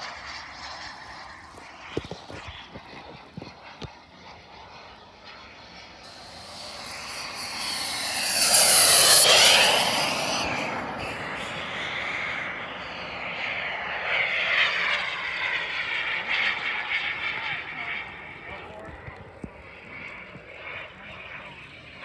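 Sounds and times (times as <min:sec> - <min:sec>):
jet turbine whine passing: 0:00.0 - 0:19.4.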